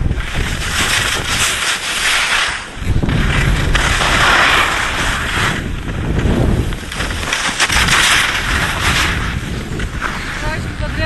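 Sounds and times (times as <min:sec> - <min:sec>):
wind buffeting microphone: 0:00.0 - 0:01.6, 0:02.6 - 0:11.0
skis sliding over snow: 0:00.0 - 0:11.0.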